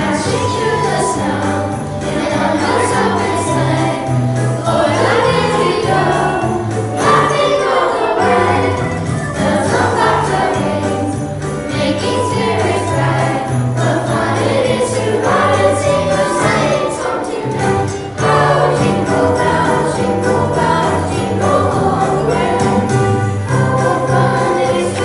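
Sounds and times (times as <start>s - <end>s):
sleigh bells rattling steadily: 0.0s - 25.0s.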